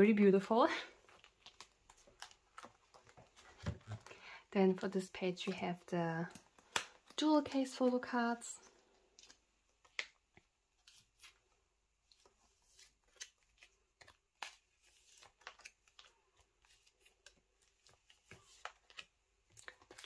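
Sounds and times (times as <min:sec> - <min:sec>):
plastic sleeves rustling: 0:00.4 - 0:20.0.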